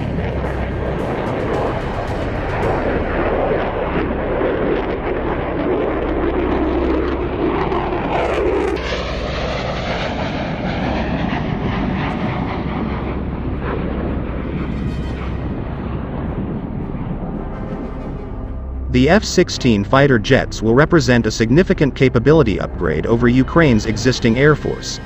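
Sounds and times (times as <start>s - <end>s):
jet aircraft engine rumble: 0.0s - 25.0s.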